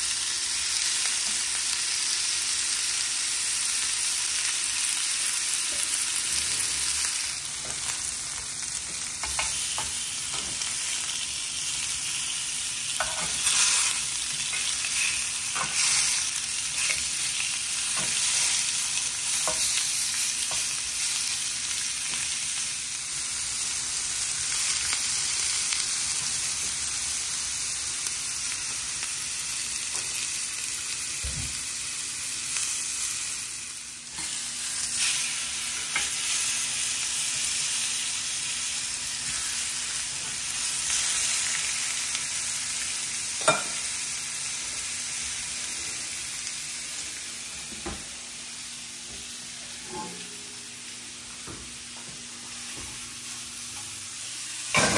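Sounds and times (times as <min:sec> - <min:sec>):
meat sizzling in a grill pan: 0:00.0 - 0:54.9.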